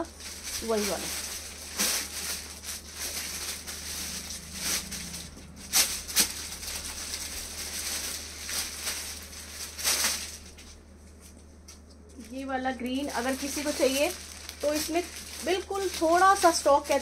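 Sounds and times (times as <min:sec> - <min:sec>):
clothes and wrapping rustling: 0:00.0 - 0:17.0.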